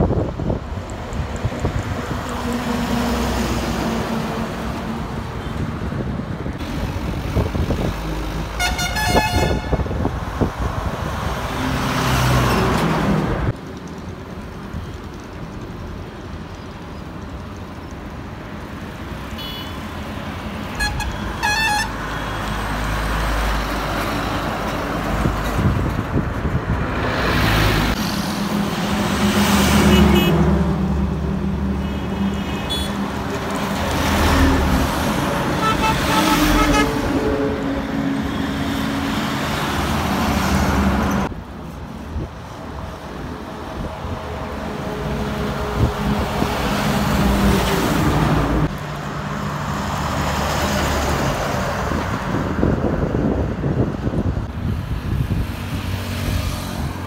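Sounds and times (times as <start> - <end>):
highway traffic passing: 0.0 - 57.0.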